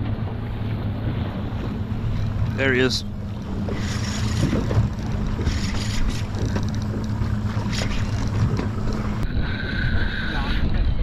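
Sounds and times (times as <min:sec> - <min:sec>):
boat engine running: 0:00.0 - 0:11.0
wind buffeting microphone: 0:00.0 - 0:11.0.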